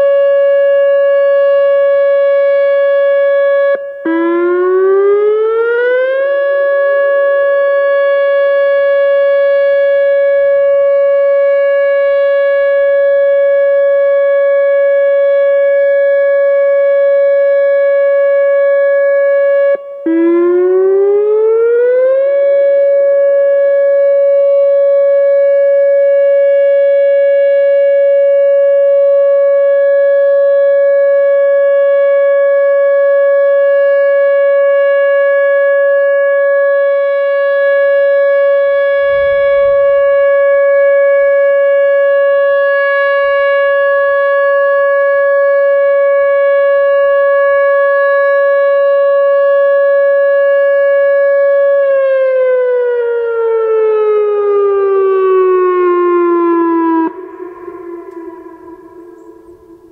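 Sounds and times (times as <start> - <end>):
warning siren wailing: 0.0 - 59.9.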